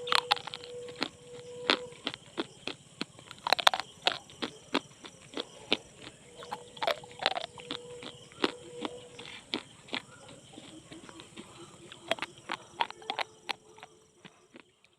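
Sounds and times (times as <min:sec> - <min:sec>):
slate pencils being chewed: 0:00.0 - 0:14.9.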